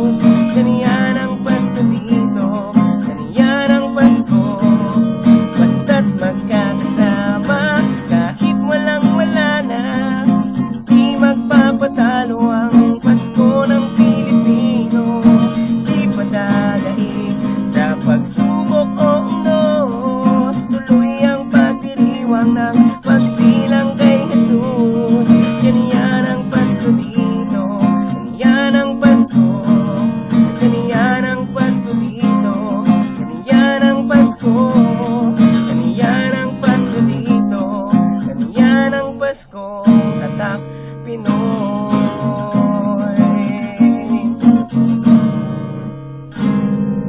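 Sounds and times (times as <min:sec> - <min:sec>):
man singing: 0:00.0 - 0:45.4
acoustic guitar strumming: 0:00.0 - 0:47.0.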